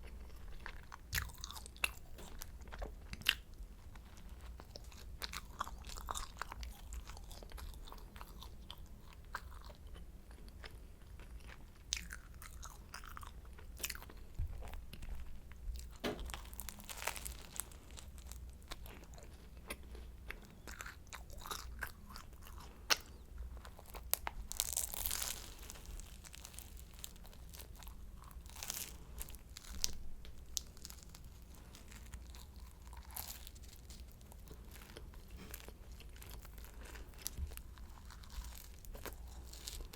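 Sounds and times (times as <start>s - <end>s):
chewing: 0.0s - 39.9s
crunchy pastry bites: 0.0s - 39.9s.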